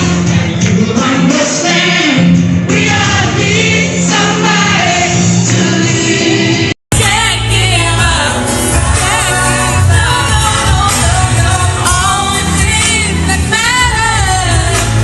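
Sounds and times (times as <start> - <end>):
group of voices singing: 0.0 - 15.0
steady bass line: 0.0 - 15.0.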